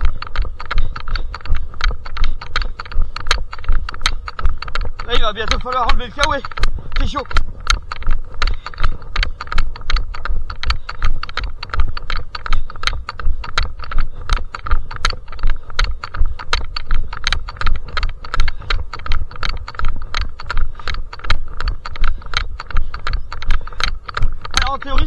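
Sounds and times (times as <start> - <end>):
running footsteps: 0.0 - 25.0.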